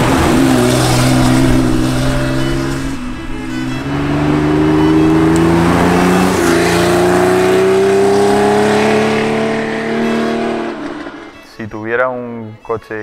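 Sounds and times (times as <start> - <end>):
car engine accelerating hard: 0.0 - 11.4.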